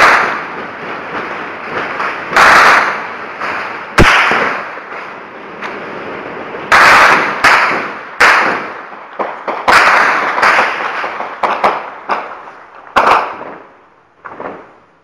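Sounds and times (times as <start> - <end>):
gunshots echoing: 0.0 - 5.1, 6.7 - 13.6.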